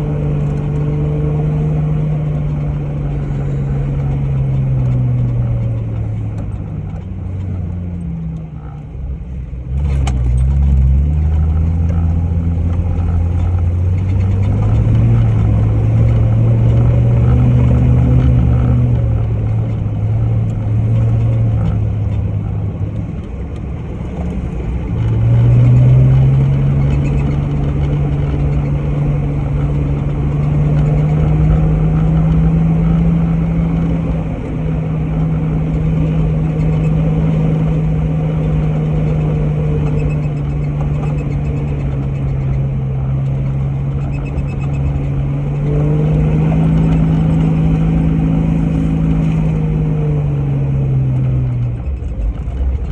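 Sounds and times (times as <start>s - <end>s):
off-road vehicle engine running: 0.0s - 52.9s
wind: 0.0s - 52.9s.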